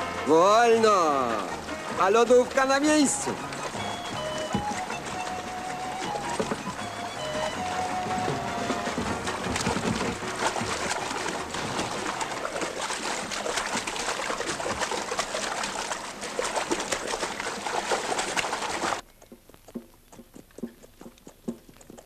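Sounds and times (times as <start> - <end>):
hooves splashing through water: 0.0 - 22.0.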